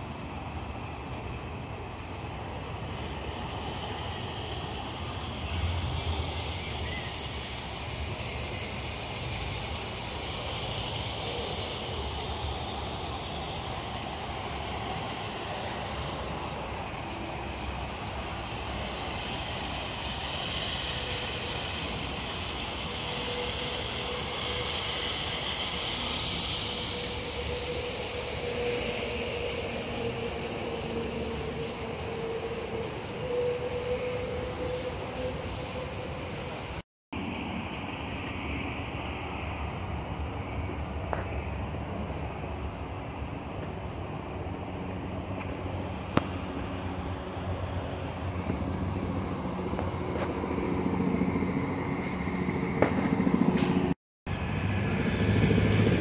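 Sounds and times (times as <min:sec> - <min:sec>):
high hiss: 0:00.0 - 0:54.0
faint steady drone: 0:00.0 - 0:56.0.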